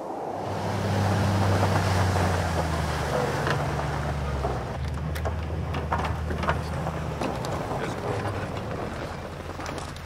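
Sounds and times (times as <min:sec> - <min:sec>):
vehicle engine running: 0:00.4 - 0:10.0.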